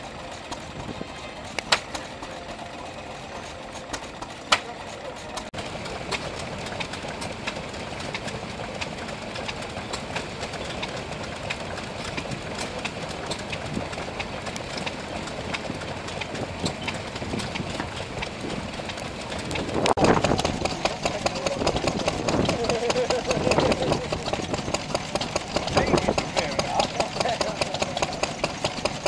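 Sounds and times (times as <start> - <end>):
stationary engine running: 0.0 - 29.0.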